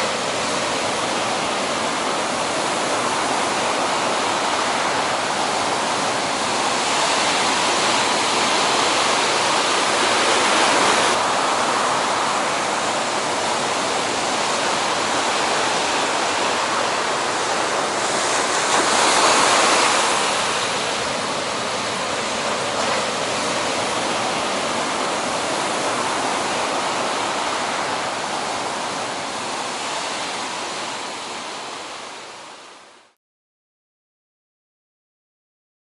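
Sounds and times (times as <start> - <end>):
ocean surf breaking: 0.0 - 32.8.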